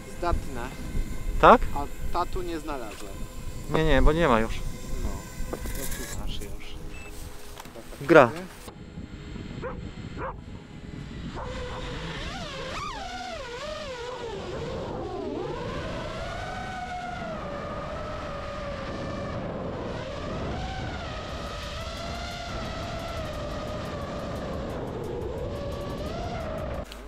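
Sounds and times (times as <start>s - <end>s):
low wind rush: 0.0s - 26.9s
drone motors whining: 0.0s - 27.0s.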